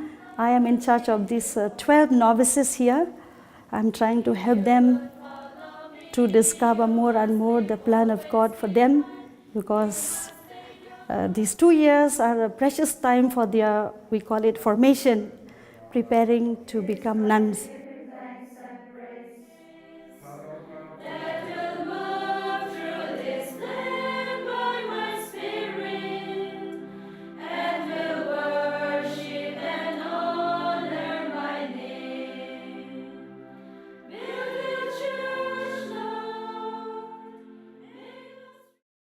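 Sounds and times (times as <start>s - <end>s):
choir singing a hymn: 0.0s - 12.4s, 16.2s - 38.8s.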